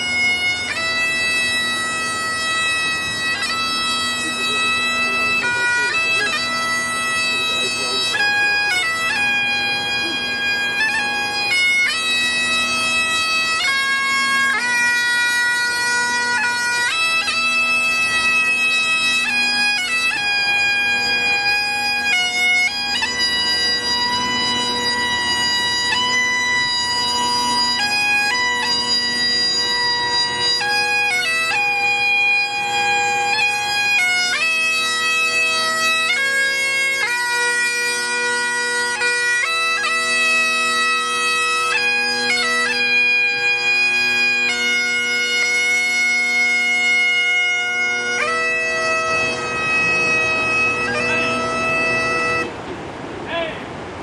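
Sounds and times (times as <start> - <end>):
bagpipe melody: 0.0 - 52.6
bagpipe drones: 0.0 - 52.7.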